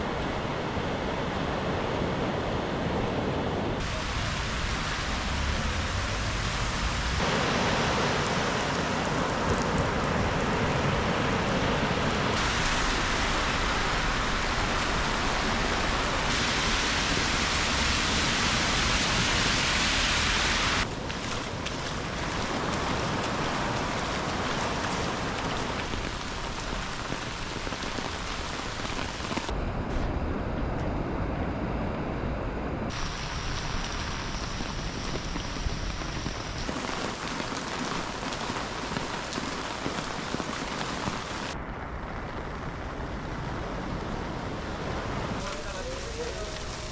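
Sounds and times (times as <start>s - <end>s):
steady rain falling: 3.8s - 29.5s, 32.9s - 46.9s.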